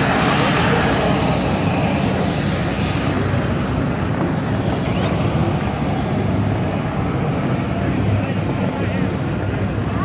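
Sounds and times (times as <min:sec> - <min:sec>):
jet engine rumble and hiss: 0:00.0 - 0:10.0.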